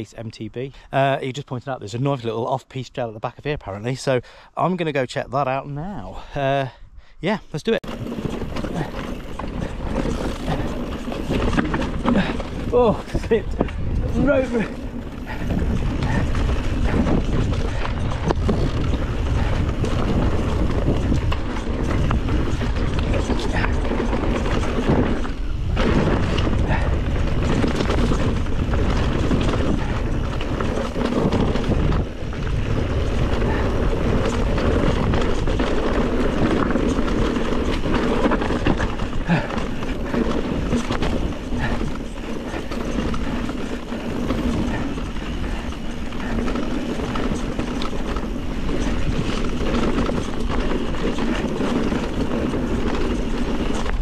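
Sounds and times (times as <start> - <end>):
tyre and wind noise: 0.0 - 54.0
bike knocks and rattles: 7.7 - 54.0.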